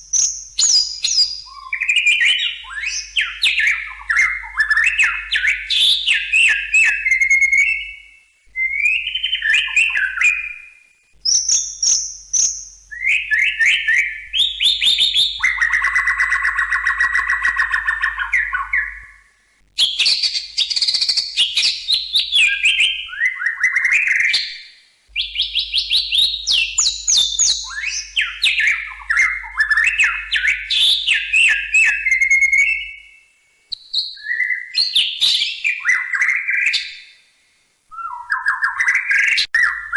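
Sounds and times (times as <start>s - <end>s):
bird singing whistles and trills: 0.0s - 37.3s, 37.9s - 39.9s.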